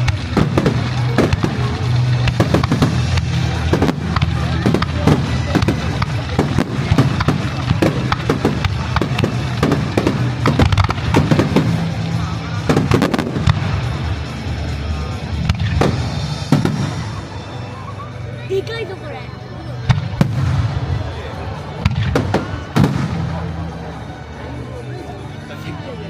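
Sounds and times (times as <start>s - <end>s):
fireworks bangs and crackles: 0.0s - 18.5s, 19.6s - 25.8s.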